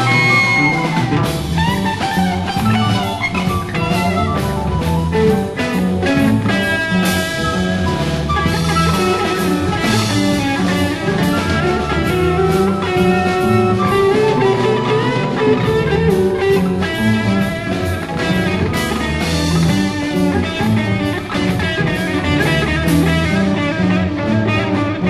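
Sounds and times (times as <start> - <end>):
bass: 0.0 - 25.0
drum kit beat: 0.0 - 25.0.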